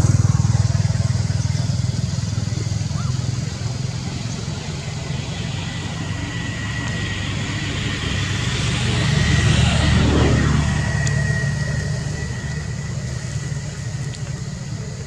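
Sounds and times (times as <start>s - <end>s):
high-pitched whine: 0.0s - 15.0s
motor vehicle passing: 0.0s - 15.0s.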